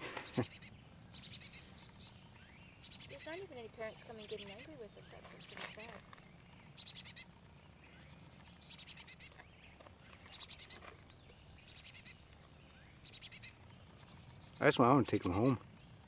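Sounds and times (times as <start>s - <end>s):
fledgling bird begging calls: 0.2s - 9.4s, 10.3s - 10.9s, 11.6s - 15.6s.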